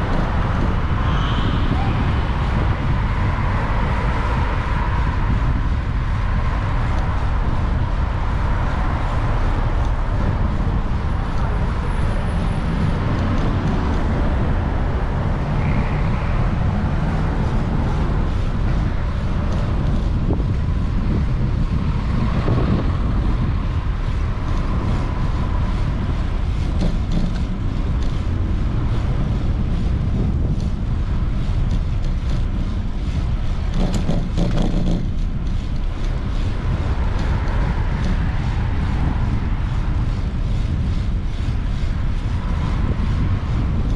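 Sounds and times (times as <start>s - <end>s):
cars passing: 0.0s - 43.9s
low traffic rumble: 0.0s - 43.9s.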